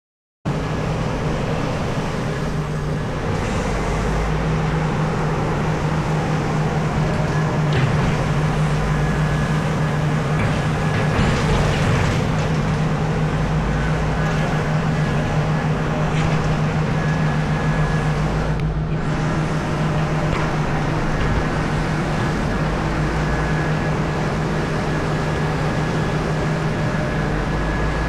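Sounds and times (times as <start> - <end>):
excavator engine droning: 0.5 - 28.0.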